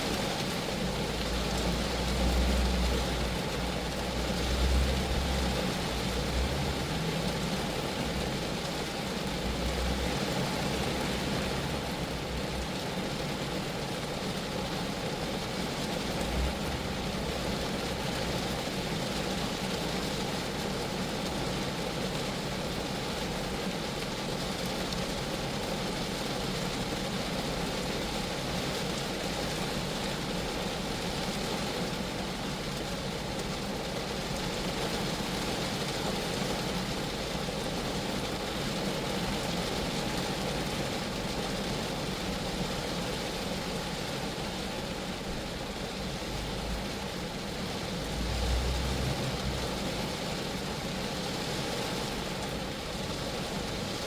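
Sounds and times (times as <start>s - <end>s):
rain pattering on a car: 0.0s - 54.0s.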